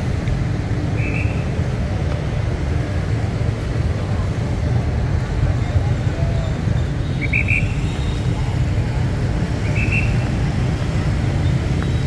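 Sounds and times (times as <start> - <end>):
motorbikes and cars passing: 0.0 - 12.0
street traffic rumble: 0.0 - 12.0.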